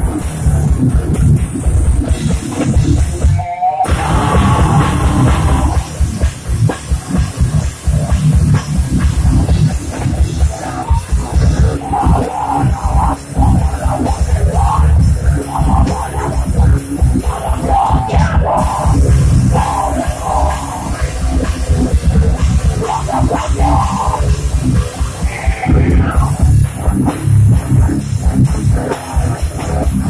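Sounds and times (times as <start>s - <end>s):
distorted guitar: 0.0s - 30.0s
live heavy band playing: 0.0s - 30.0s
pounding drum kit: 0.0s - 30.0s.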